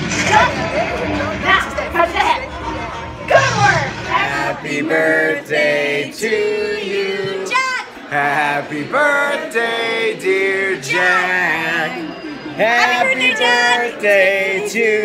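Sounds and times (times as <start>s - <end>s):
group singing held notes: 1.4s - 15.0s.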